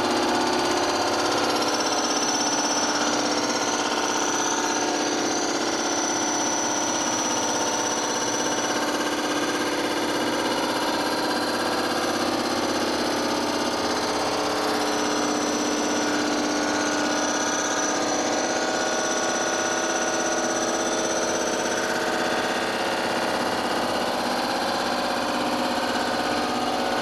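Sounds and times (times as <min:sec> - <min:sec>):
milling machine whine: 0:00.0 - 0:27.0.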